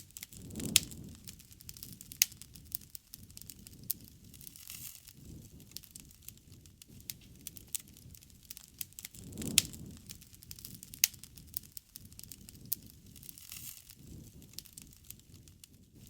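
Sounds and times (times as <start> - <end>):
campfire crackling and popping: 0.0 - 16.0
loud fire snaps: 0.0 - 16.0
low rush of burning: 0.0 - 16.0.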